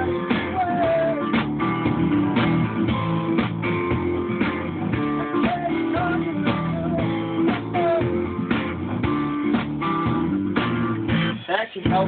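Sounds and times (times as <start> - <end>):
guitar song with drum beat: 0.0 - 12.0.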